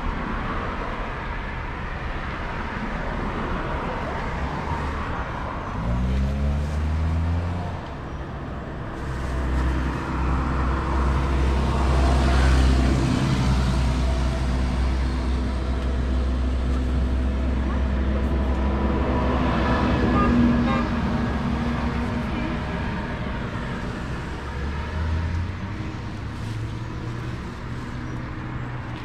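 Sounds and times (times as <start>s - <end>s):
heavy engine low rumble: 0.0s - 29.0s
vehicles passing by: 0.0s - 29.0s.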